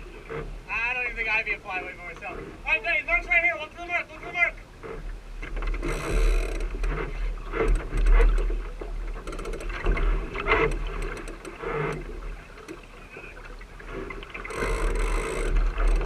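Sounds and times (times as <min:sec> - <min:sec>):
water splashing along hull: 0:00.0 - 0:16.0.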